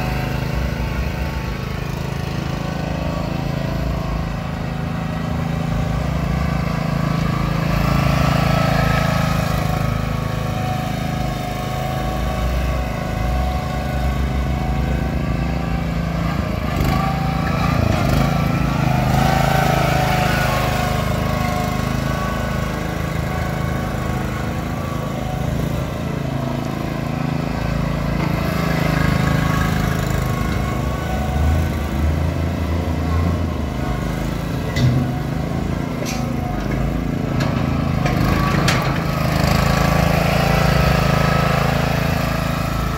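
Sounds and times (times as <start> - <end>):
small cart engine running: 0.0 - 42.9.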